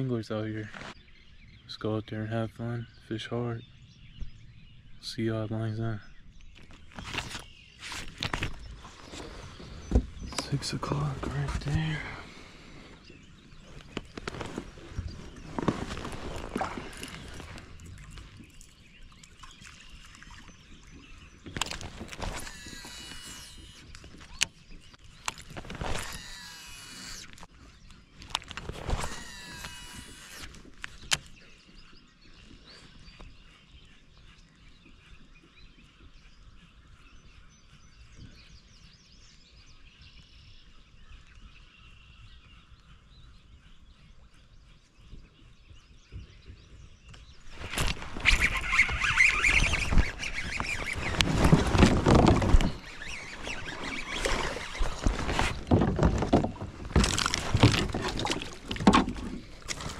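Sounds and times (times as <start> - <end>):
faint bird calls: 5.0 - 59.9.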